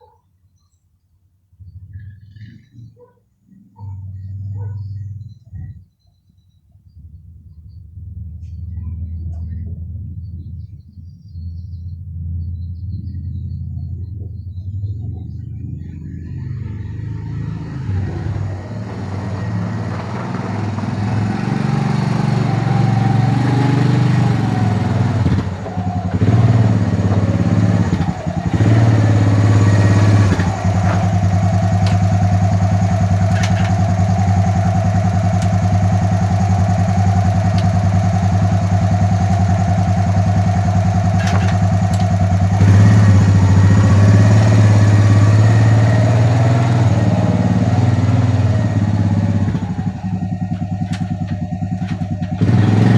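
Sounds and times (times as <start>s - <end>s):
atv engine idling: 7.0s - 52.9s.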